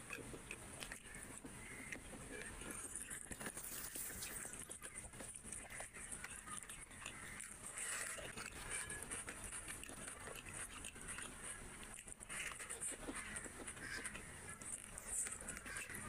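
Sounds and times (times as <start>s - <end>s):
fingers squishing rice: 0.0s - 16.0s
mouth chewing: 0.0s - 16.0s.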